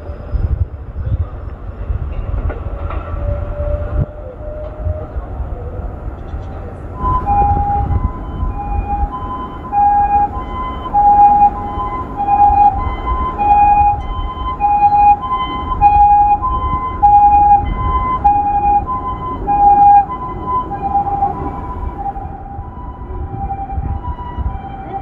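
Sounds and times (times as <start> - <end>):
low rumble: 0.0 - 25.0
two-tone ambulance siren: 2.8 - 25.0.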